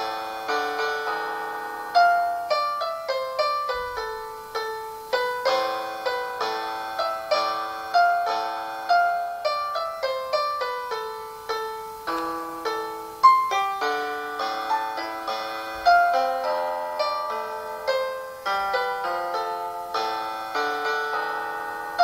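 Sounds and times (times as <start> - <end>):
piano through small speakers: 0.0 - 22.0.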